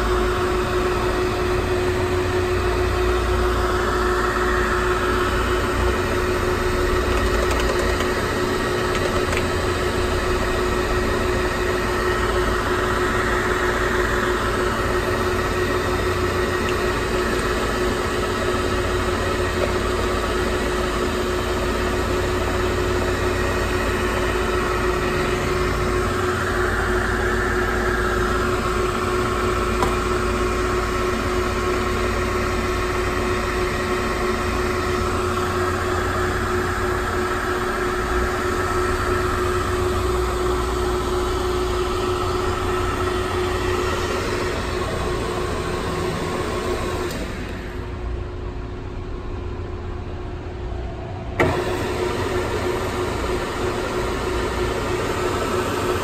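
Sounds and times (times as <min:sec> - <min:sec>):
lathe humming: 0:00.0 - 0:49.4, 0:51.4 - 0:56.0.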